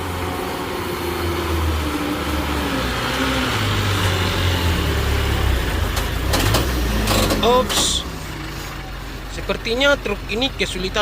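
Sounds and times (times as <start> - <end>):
diesel truck engine labouring: 0.0 - 11.0.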